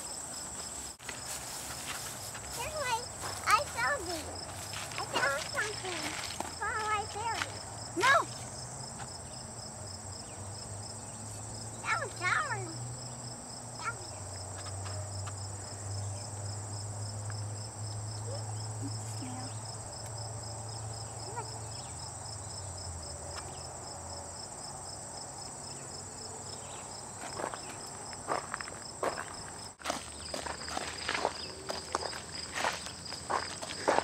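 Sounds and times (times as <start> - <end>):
crickets chirring: 0.0 - 34.0.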